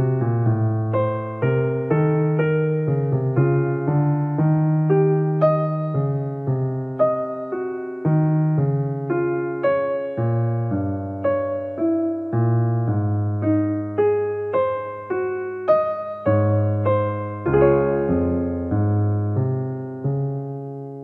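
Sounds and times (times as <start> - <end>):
low piano bass notes: 0.0 - 21.0
slow piano melody: 0.0 - 21.0.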